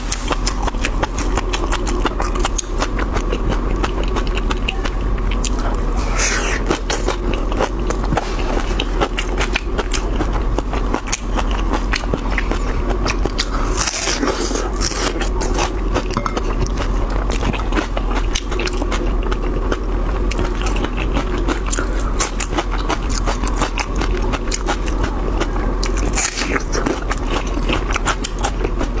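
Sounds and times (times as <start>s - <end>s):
crunching raw onion: 0.0s - 29.0s
steady low hum: 0.0s - 29.0s.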